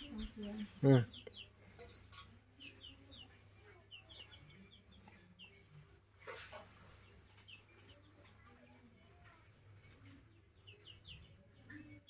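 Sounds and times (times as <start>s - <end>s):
chicken clucking: 0.0s - 12.0s
small birds chirping: 0.0s - 12.0s.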